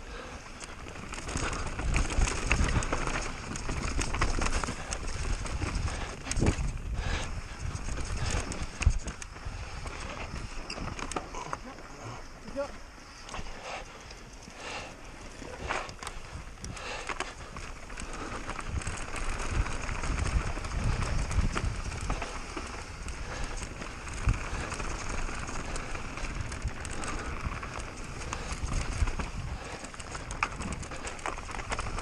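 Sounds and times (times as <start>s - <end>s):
bike knocking and rattling: 0.1s - 32.0s.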